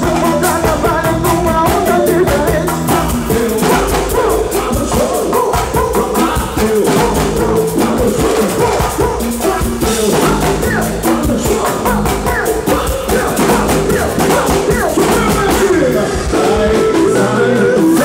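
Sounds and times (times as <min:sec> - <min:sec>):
fast percussion drums: 0:00.0 - 0:18.0
live band music: 0:00.0 - 0:18.0.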